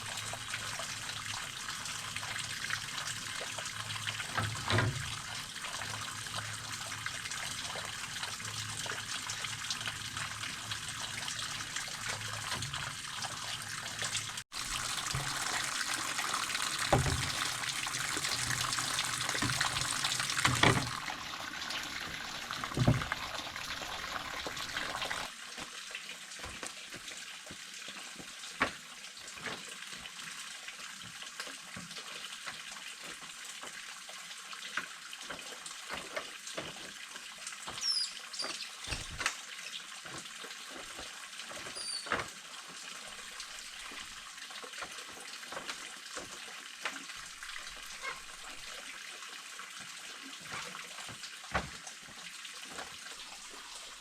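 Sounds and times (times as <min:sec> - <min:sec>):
running water splashing: 0:00.0 - 0:30.1, 0:35.2 - 0:54.0.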